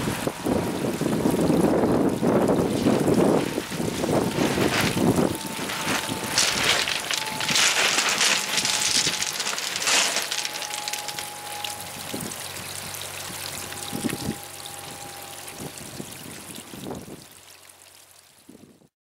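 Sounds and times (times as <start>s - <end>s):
water splashing onto shingle: 0.0s - 18.2s.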